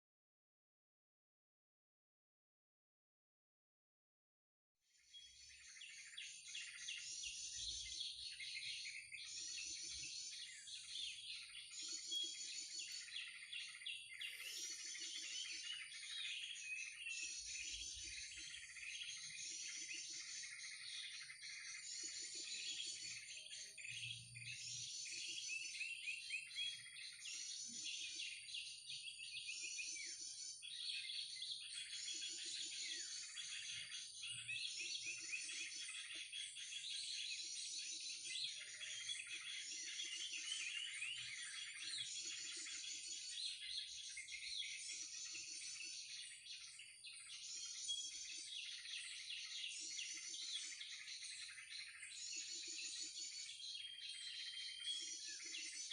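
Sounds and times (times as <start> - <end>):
many small birds chirping: 4.9 - 55.9.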